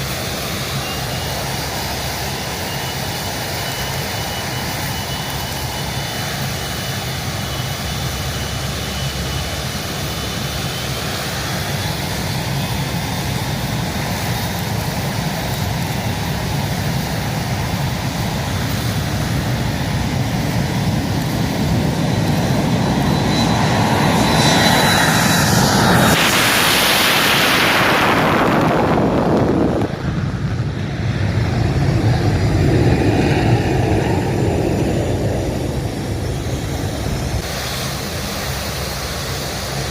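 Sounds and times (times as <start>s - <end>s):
military aircraft flying overhead: 0.0s - 39.9s.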